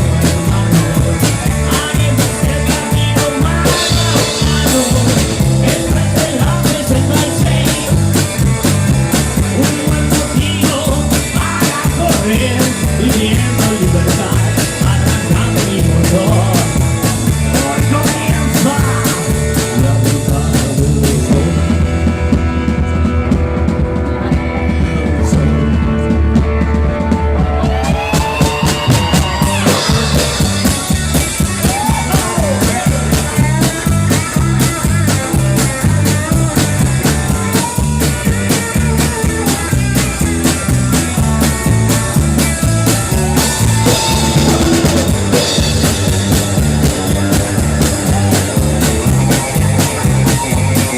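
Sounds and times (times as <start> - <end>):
drum beat: 0.0 - 50.9
rock band playing live: 0.0 - 50.9.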